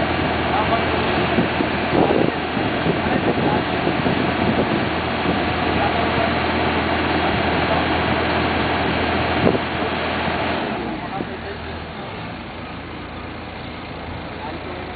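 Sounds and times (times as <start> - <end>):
loader engine idling: 0.0 - 14.9.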